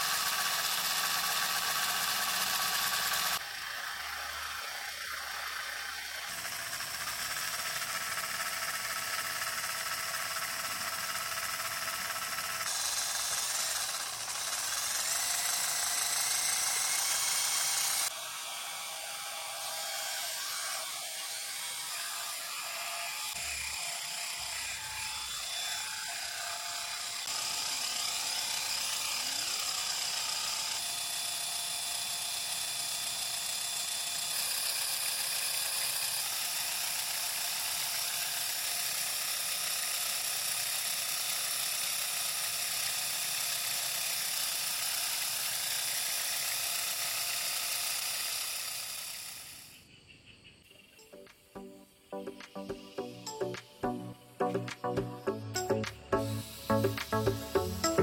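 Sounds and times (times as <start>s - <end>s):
small electric motor whining: 0.0s - 49.9s, 55.6s - 58.0s.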